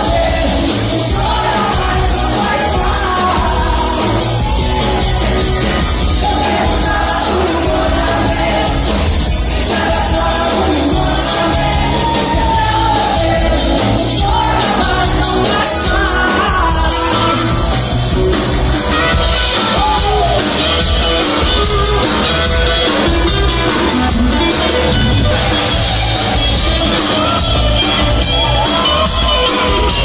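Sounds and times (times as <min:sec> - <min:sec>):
band playing music: 0:00.0 - 0:30.0.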